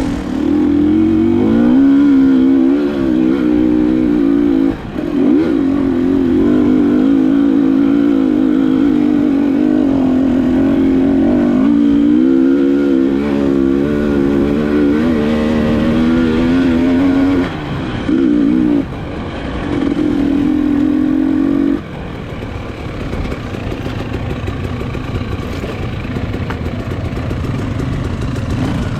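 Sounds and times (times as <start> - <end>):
motorcycle engine revving high: 0.0 - 28.9.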